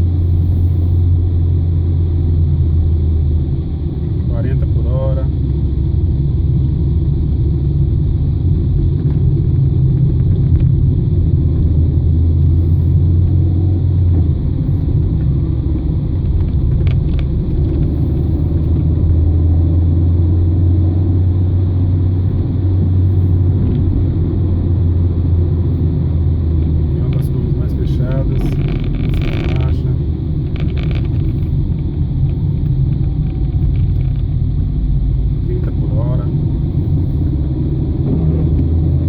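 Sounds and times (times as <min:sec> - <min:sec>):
car engine droning: 0:00.0 - 0:39.0
low road rumble: 0:00.0 - 0:39.0.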